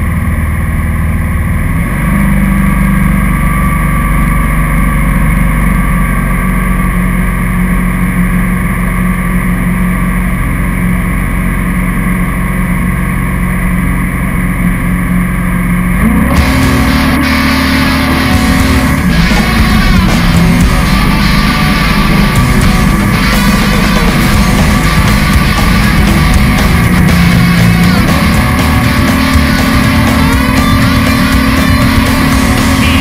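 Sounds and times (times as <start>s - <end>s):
jet boat engine running: 0.0s - 33.0s
rock music with guitar: 1.5s - 33.0s.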